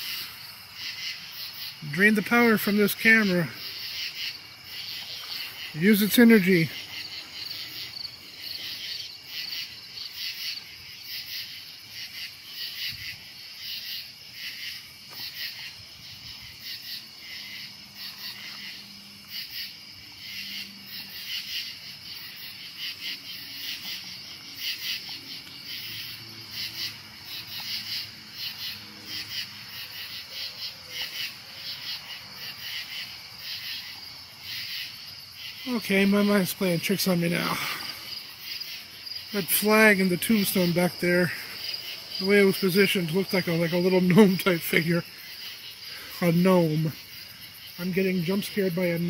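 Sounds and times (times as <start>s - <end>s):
crickets and insects chirping: 0.0s - 49.0s.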